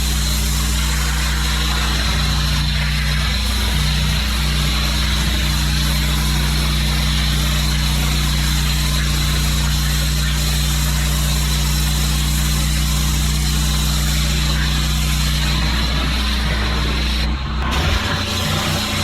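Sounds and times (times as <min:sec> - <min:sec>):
pressure washer engine running: 0:00.0 - 0:19.0
water jet hissing: 0:00.0 - 0:19.0.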